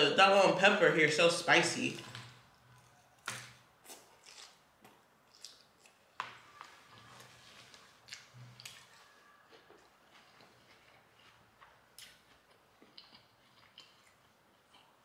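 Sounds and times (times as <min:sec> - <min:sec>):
chewing crisp salad: 0:02.0 - 0:15.0.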